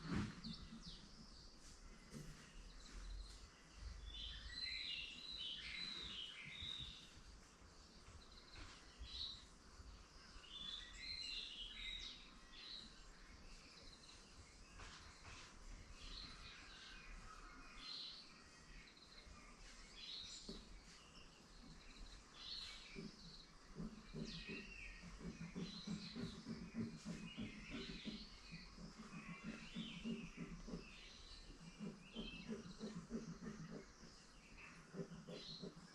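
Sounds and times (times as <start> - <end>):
birds chirping and twittering: 0.0 - 35.9.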